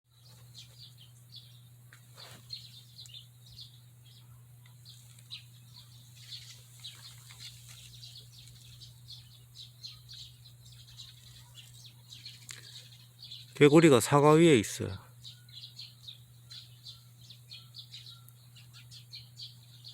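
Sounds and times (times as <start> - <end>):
small birds chirping: 0.1 - 19.9.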